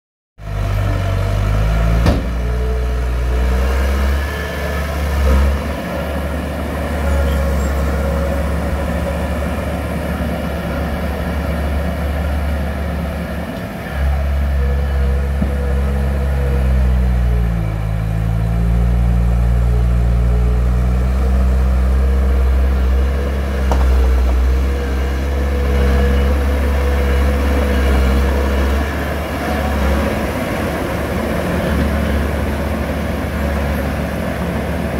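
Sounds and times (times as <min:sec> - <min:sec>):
heavy machinery engine running: 0:00.4 - 0:34.9.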